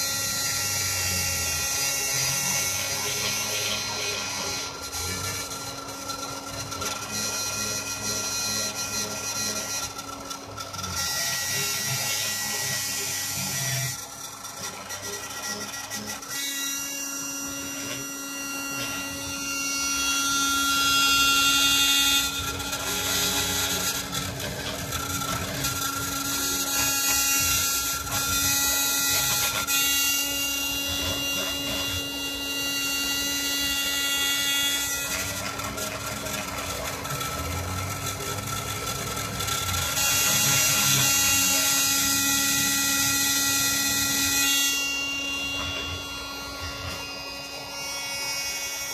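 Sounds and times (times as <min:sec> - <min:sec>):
rotary tool spinning: 0:00.0 - 0:48.9.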